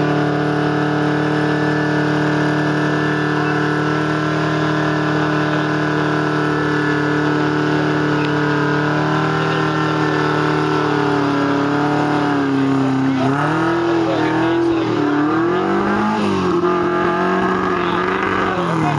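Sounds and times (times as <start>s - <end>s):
engine pulling and revving: 0.0s - 18.9s.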